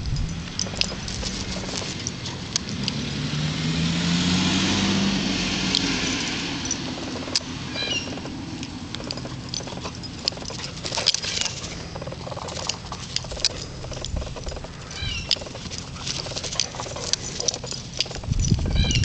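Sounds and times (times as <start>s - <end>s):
light rustling and ticks: 0.0s - 3.2s, 5.6s - 19.0s
dog paws pattering on grass: 0.2s - 2.5s, 5.8s - 19.0s.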